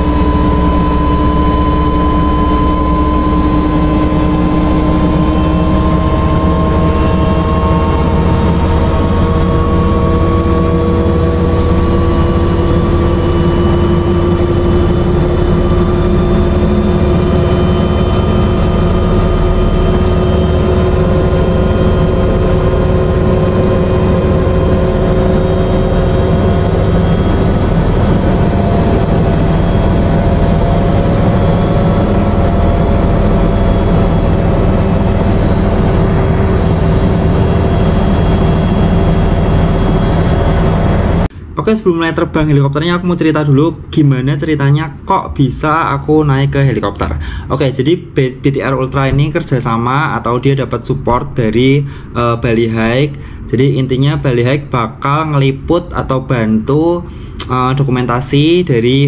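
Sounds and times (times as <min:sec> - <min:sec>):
helicopter rotor drone: 0:00.0 - 0:59.0
turbine whine rising: 0:00.0 - 0:59.0.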